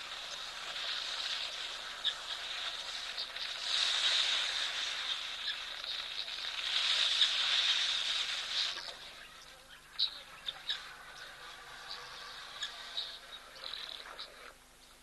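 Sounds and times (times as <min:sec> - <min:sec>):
bird chirps: 0:00.0 - 0:15.0
steady hiss: 0:00.0 - 0:15.0.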